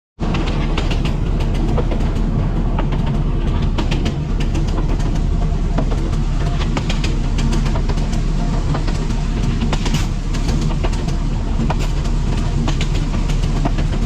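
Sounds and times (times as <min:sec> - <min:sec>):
train rumbling on track: 0:00.2 - 0:14.0
wheels clicking over rail joints: 0:00.2 - 0:14.0.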